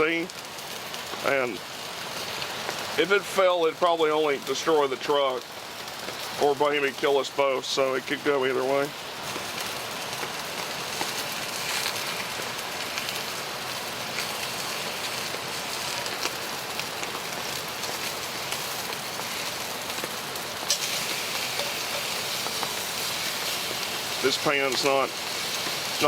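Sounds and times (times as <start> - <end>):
steaks sizzling in a pan: 0.0 - 26.0.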